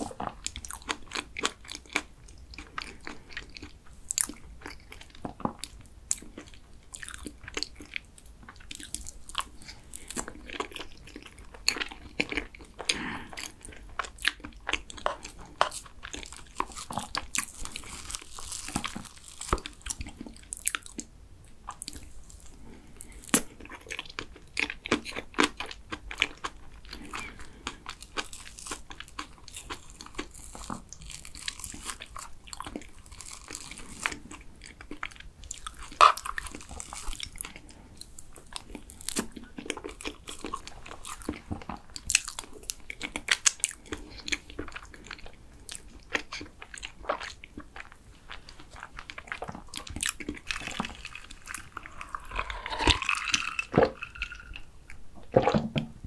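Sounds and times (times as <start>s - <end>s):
chewing and wet mouth sounds: 0.0s - 55.6s.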